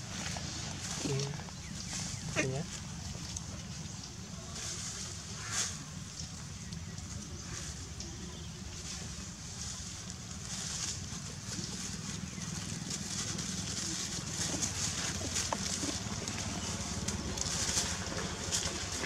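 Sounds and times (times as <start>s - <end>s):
dry leaves crackling and rustling: 0.0s - 19.0s
steady low rumble: 0.0s - 19.0s.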